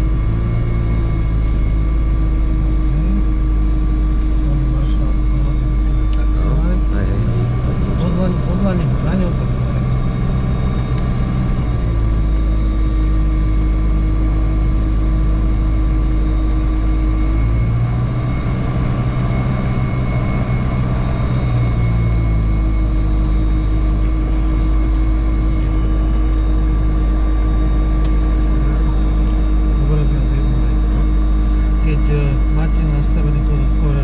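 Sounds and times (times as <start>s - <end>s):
aircraft engine droning: 0.0s - 34.0s.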